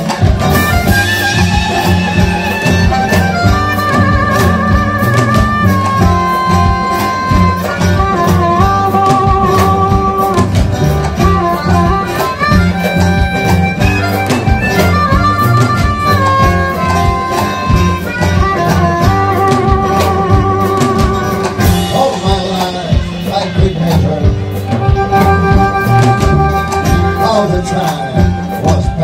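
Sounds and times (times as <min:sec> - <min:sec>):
double bass: 0:00.0 - 0:29.0
guitar: 0:00.0 - 0:29.0
harmonica: 0:00.0 - 0:29.0
steady drum beat: 0:00.0 - 0:29.0.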